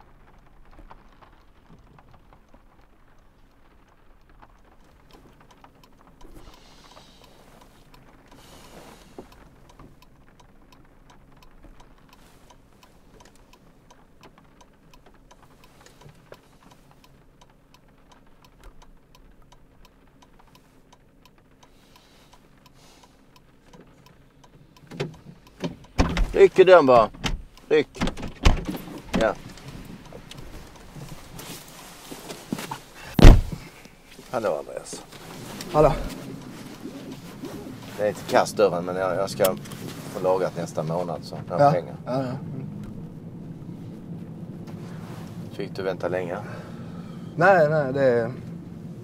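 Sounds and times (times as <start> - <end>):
drops ticking: 0.0 - 49.0
low steady hum: 0.0 - 49.0
rain pattering on car roof: 0.0 - 49.0.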